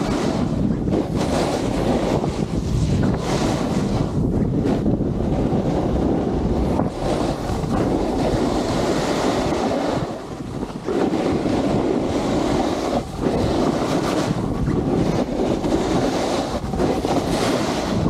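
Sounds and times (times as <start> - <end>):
skis sliding on snow: 0.0 - 18.0
wind buffeting microphone: 0.0 - 18.0.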